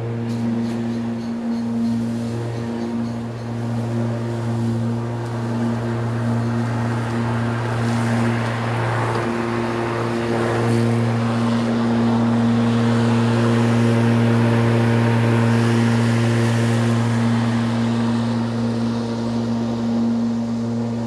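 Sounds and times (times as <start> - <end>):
electric lawnmower running: 0.0 - 21.0
hiss of cut grass: 0.0 - 21.0.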